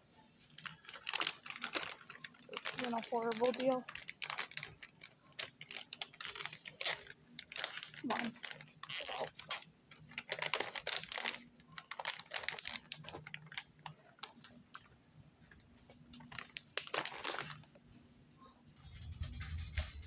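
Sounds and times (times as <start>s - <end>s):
plastic packaging crinkling: 0.5s - 17.8s.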